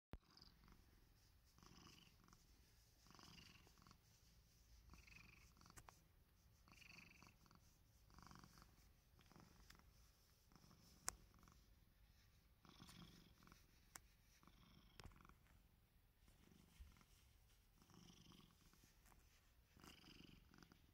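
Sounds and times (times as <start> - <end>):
cat purring: 0.2 - 20.9.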